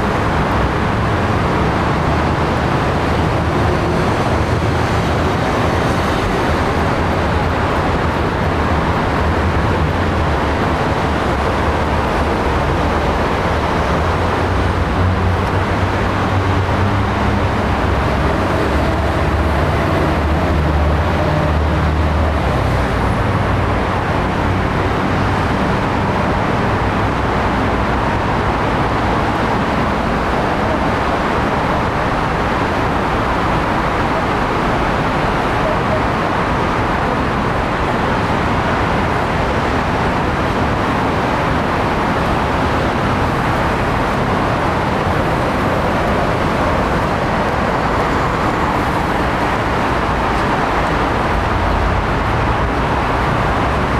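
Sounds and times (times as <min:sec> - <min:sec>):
low engine rumble: 0:00.0 - 0:22.3, 0:25.7 - 0:53.9
outdoor noise: 0:00.0 - 0:53.9.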